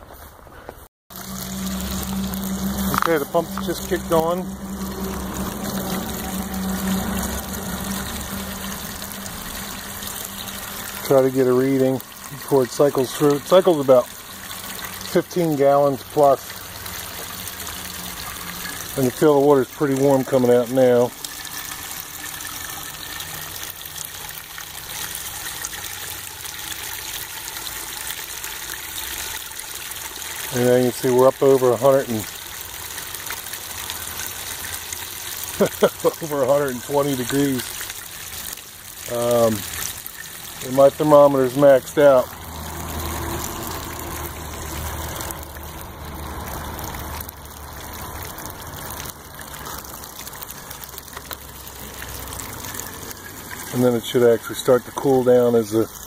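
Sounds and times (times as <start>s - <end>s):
pool pump humming: 1.1s - 56.0s
water gushing into pool: 1.1s - 56.0s.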